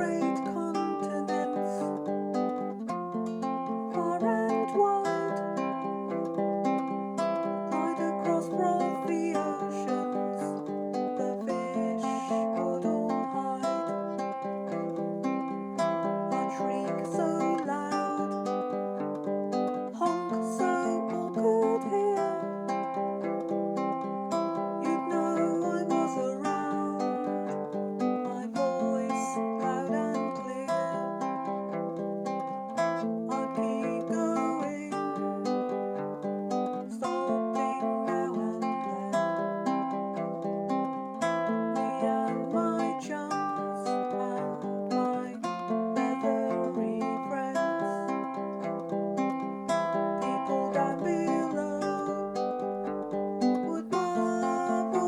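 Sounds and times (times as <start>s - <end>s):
baritone ukulele plucking: 0.0s - 55.0s.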